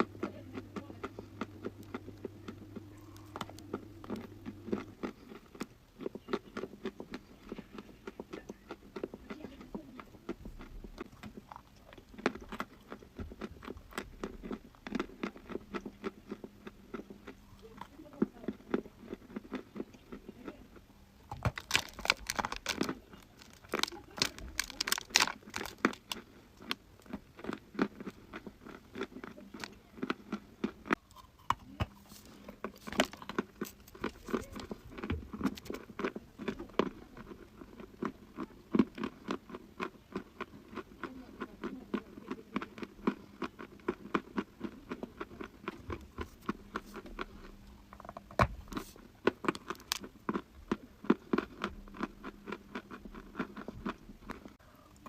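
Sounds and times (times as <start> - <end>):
chewing crunchy chalk: 0.0 - 55.0.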